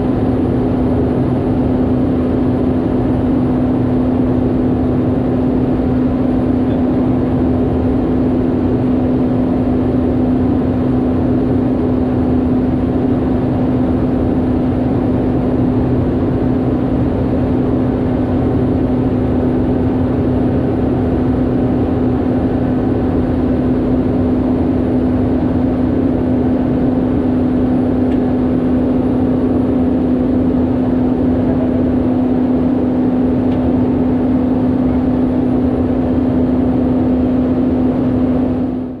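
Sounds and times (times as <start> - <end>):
turboprop engine drone: 0.0 - 39.0.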